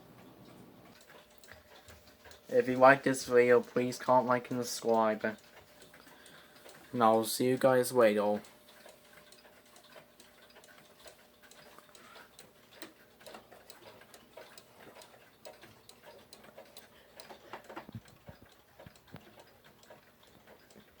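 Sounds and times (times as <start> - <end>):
mantel clock ticking: 0.0 - 21.0.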